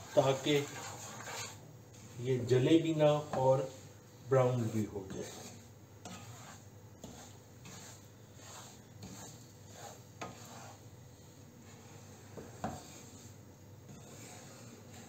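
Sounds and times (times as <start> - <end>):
wooden spatula scraping frying pan: 0.0 - 15.0.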